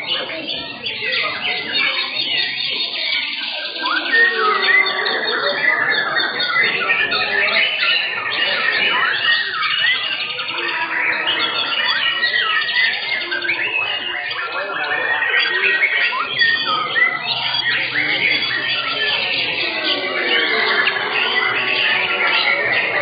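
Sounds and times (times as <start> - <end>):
songbirds whistling and trilling: 0.0 - 23.0.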